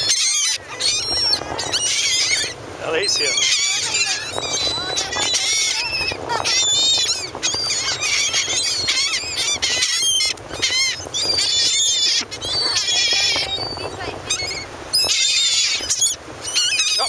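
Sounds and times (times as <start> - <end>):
flock of gulls calling: 0.0 - 17.0.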